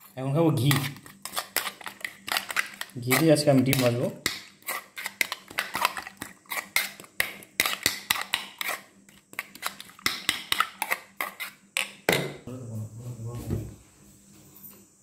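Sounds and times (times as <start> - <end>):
spoon beating eggs in metal pan: 0.0 - 12.3.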